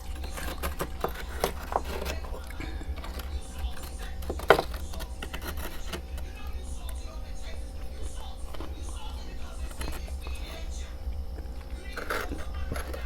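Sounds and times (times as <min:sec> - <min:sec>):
crisp crunches of chewing frost: 0:00.0 - 0:13.0
steady low hum: 0:00.0 - 0:13.0.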